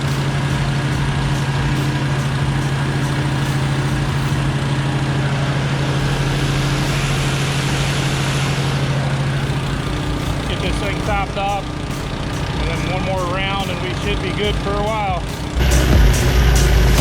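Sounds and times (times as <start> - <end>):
gas-engine pump running: 0.0 - 17.0.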